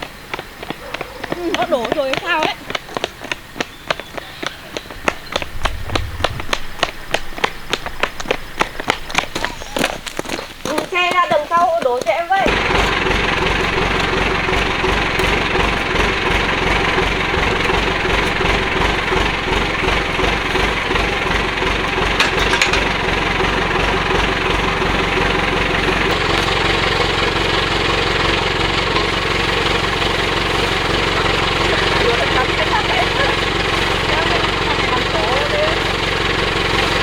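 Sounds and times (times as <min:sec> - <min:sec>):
engine running: 0:00.0 - 0:09.2, 0:11.0 - 0:37.0.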